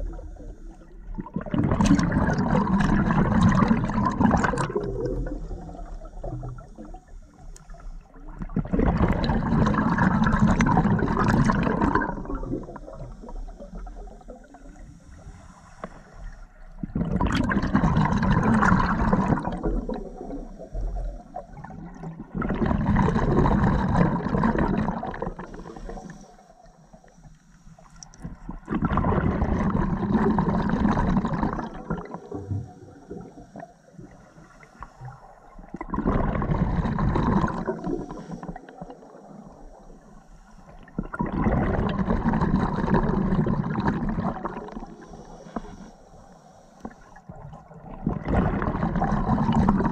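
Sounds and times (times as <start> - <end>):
underwater bubbles gurgling: 0.0 - 49.9.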